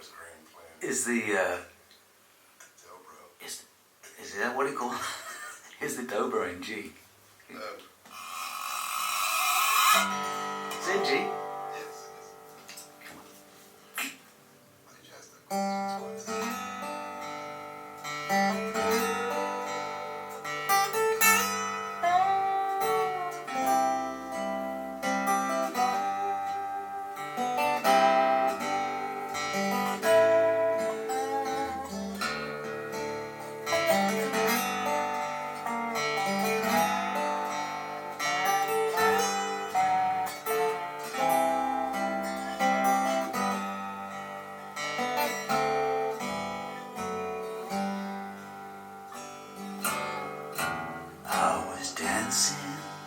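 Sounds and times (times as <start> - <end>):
slide guitar waltz: 8.1 - 13.9, 15.4 - 53.0.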